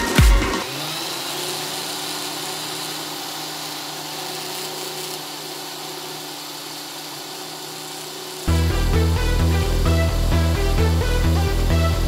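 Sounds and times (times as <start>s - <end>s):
electric drill running: 0.0s - 12.0s.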